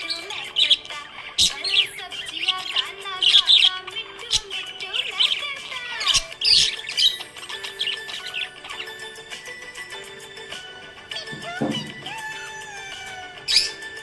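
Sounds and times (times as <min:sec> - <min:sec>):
background music: 0:00.0 - 0:14.0
budgerigars chirping and warbling: 0:00.0 - 0:14.0.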